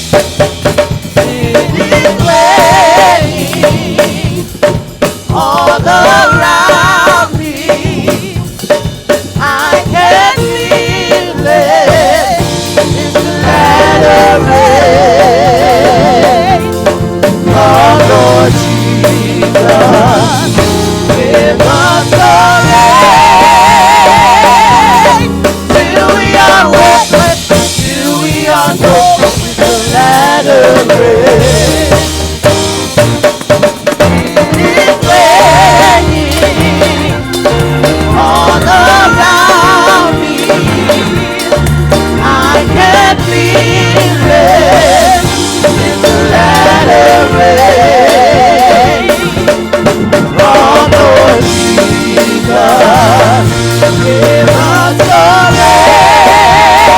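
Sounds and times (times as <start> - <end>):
drum kit with rimshots: 0.0 - 56.9
person singing with vibrato: 1.1 - 32.9, 33.8 - 56.9
held bass notes: 9.4 - 56.9.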